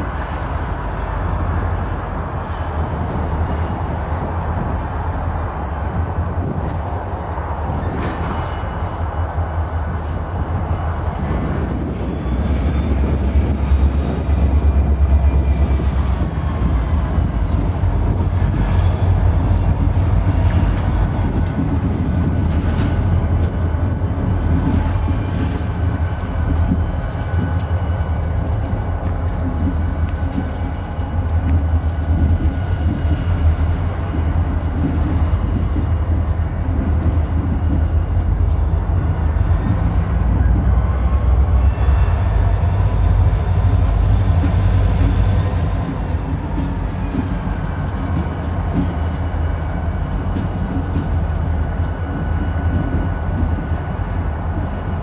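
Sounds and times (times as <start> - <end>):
diesel locomotives rolling past: 0.0 - 55.0
wind noise on microphone: 0.0 - 55.0.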